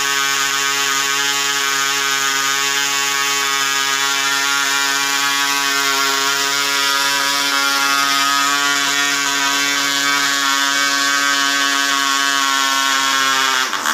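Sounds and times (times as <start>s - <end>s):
model engine buzzing: 0.0s - 13.9s.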